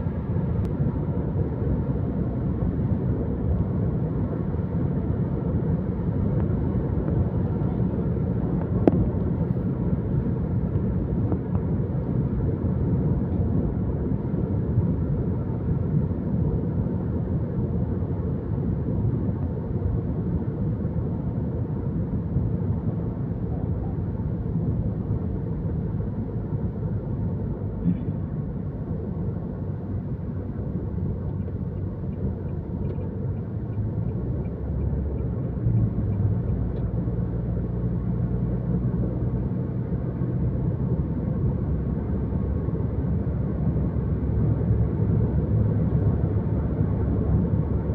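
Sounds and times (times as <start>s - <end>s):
low rumble of moving vehicle: 0.0s - 47.9s.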